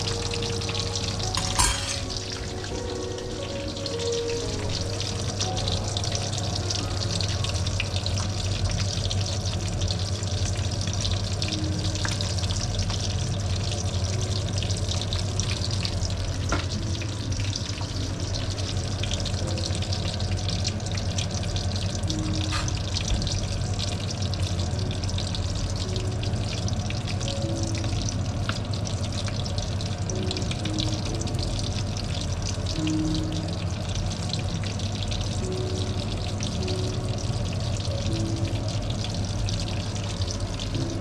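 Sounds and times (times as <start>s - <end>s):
onions sizzling in hot oil: 0.0s - 41.0s.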